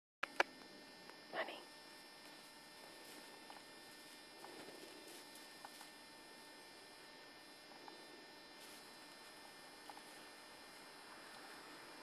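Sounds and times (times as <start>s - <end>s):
faint electrical hum: 0.2s - 12.0s.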